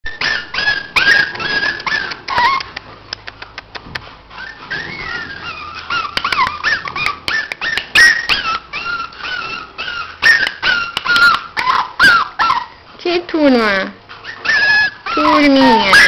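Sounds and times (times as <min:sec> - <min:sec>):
puppies whining and whimpering: 0:00.0 - 0:03.0, 0:03.6 - 0:12.9, 0:14.0 - 0:16.0.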